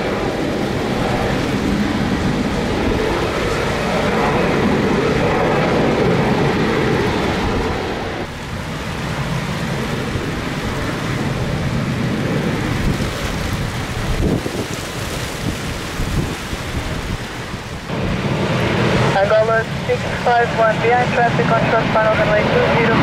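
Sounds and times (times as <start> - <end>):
wind buffeting the microphone: 0.0 - 19.5
jet engine noise: 0.0 - 23.0
rain: 0.0 - 23.0.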